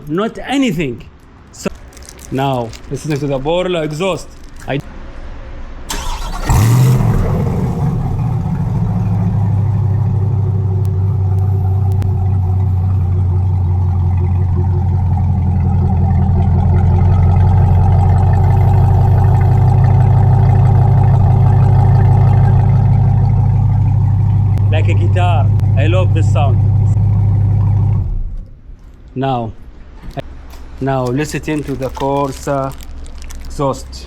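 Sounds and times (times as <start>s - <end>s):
car engine starting and idling: 5.8s - 29.1s, 29.8s - 34.0s.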